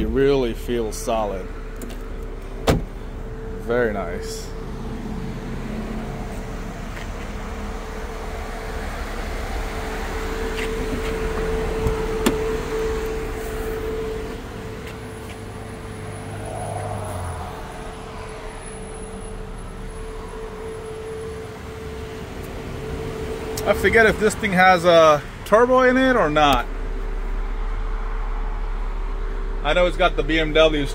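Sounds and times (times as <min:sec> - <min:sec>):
vehicle hum with whine: 0:00.0 - 0:30.9.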